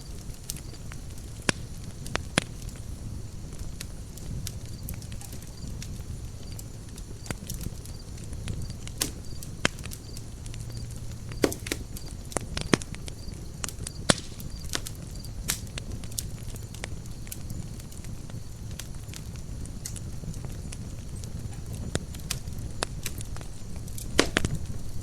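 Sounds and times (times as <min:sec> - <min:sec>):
campfire crackling and popping: 0:00.0 - 0:25.0
low rumble of flame: 0:00.0 - 0:25.0.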